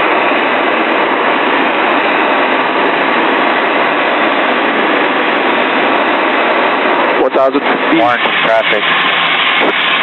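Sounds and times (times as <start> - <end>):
airflow: 0.0 - 10.0
light aircraft engine: 0.0 - 10.0.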